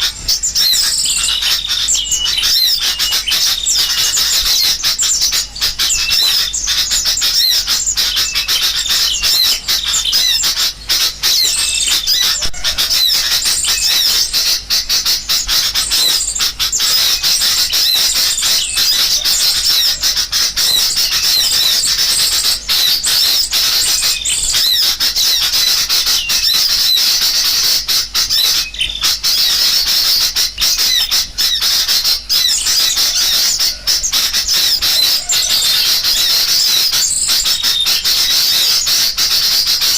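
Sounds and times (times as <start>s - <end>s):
chorus of chirping birds: 0.0s - 39.9s.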